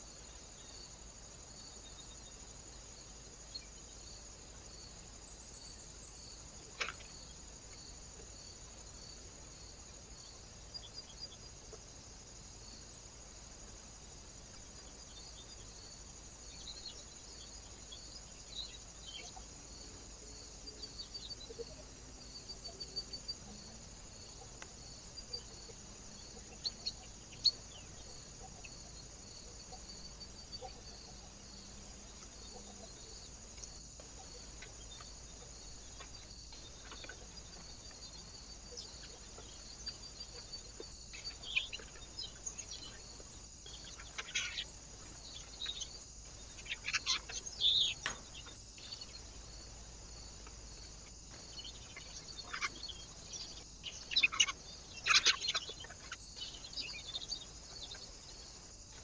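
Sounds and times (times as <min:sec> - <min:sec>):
small birds chirping: 0:00.0 - 0:59.0
steady high hiss: 0:00.0 - 0:59.0.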